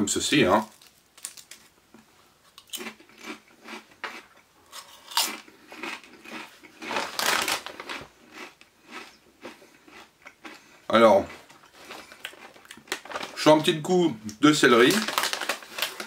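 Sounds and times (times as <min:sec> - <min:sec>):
crisps being chewed: 0:00.6 - 0:13.7, 0:14.3 - 0:16.0.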